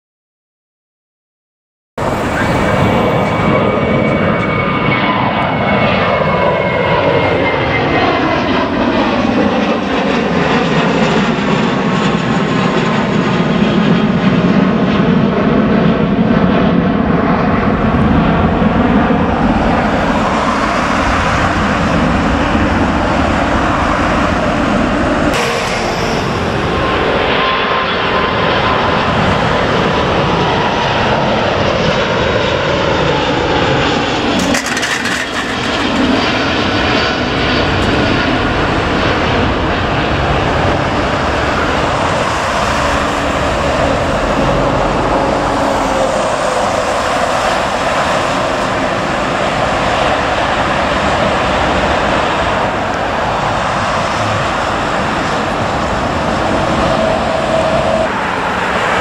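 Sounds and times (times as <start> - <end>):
jet engines climbing out: 2.0 - 59.0
jet plane departing overhead: 2.0 - 59.0.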